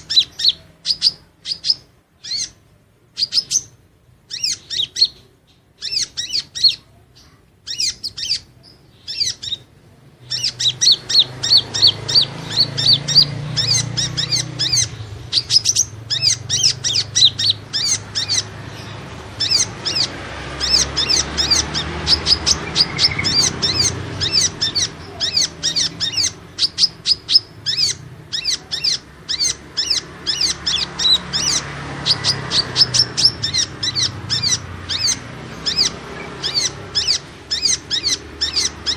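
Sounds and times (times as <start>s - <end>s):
bird high rapid chirps: 0.0s - 38.9s.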